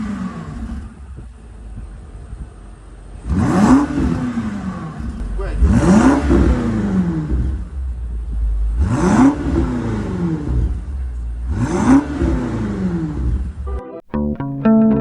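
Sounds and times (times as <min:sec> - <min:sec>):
car engine revving: 0:00.0 - 0:13.6.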